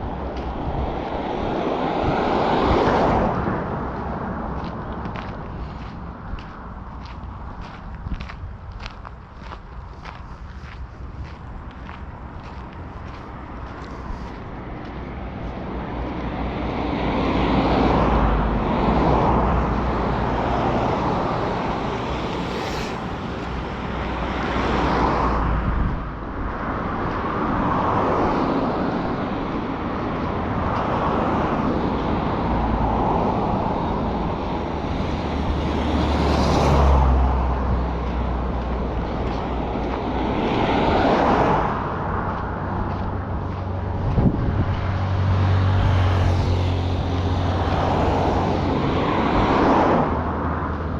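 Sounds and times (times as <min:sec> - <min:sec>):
vehicles passing: 0:00.0 - 0:50.9.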